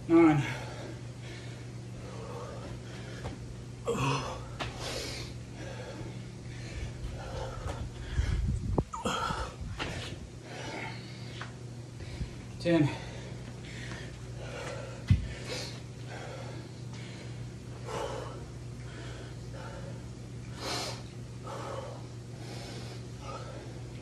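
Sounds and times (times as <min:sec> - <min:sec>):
man breathing hard: 0:00.1 - 0:24.0.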